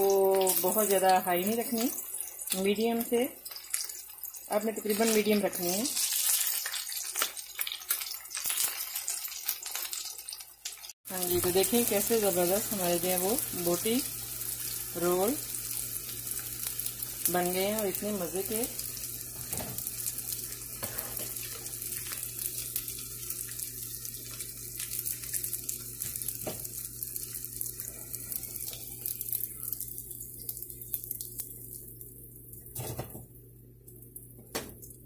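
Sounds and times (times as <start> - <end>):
deep-frying crackling sizzle: 0.0 - 35.0.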